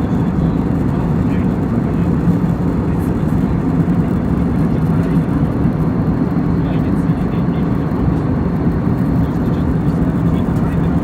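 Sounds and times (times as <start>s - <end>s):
airliner engine drone: 0.0s - 11.0s.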